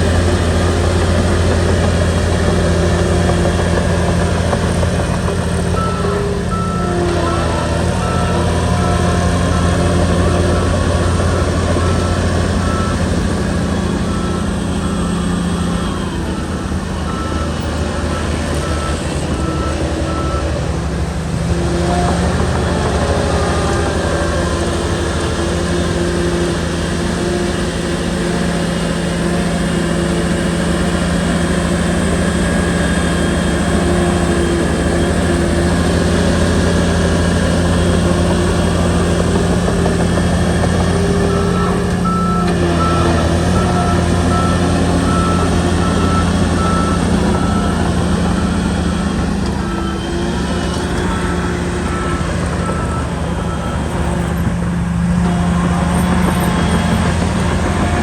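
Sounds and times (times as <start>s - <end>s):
bulldozer diesel engine running: 0.0s - 58.0s
reversing alarm beeping: 0.0s - 58.0s.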